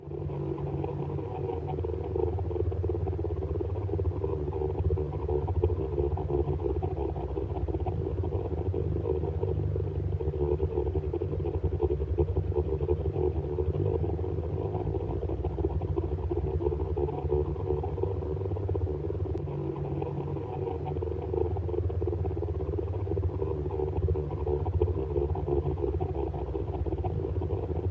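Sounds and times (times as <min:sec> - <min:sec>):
low droning hum with flutter: 0:00.0 - 0:27.9.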